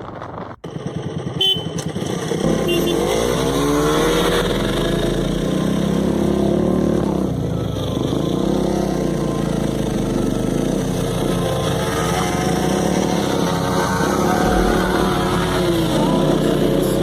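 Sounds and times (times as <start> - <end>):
off-road motorcycle engines: 0.0 - 17.0.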